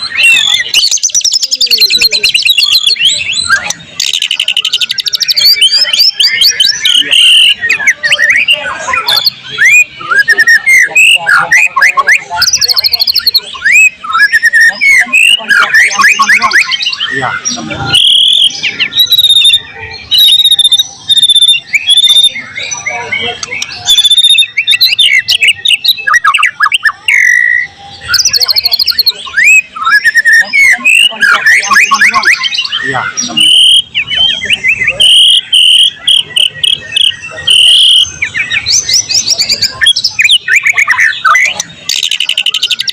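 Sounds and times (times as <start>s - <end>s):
bird singing whistles and chirps: 0.0s - 42.9s.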